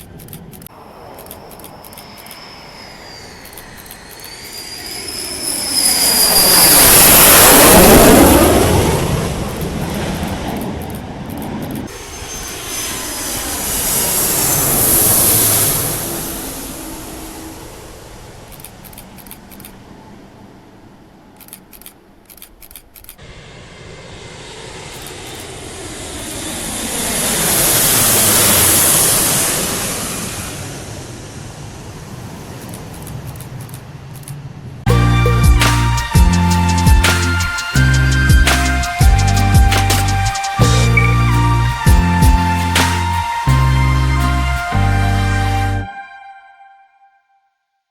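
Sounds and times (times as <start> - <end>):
fighter jets passing: 0.0 - 45.3.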